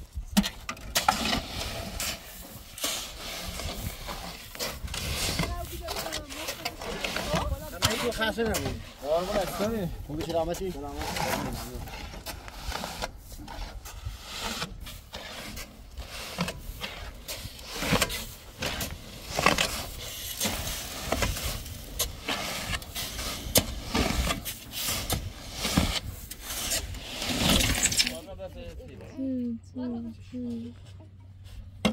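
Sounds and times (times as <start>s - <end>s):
shovels scraping gravel: 0.0s - 28.4s.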